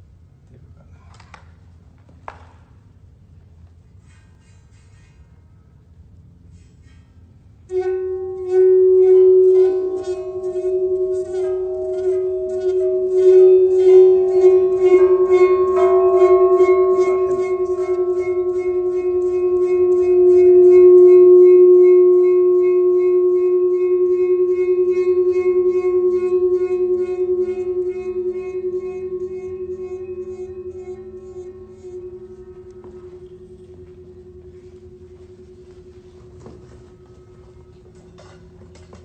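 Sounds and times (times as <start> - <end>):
ringing tone with pulsing flutter: 7.7 - 39.0.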